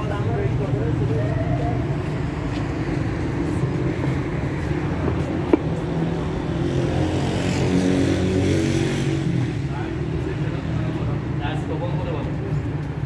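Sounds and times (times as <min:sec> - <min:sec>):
passing car and motorbike engines: 0:00.0 - 0:13.0.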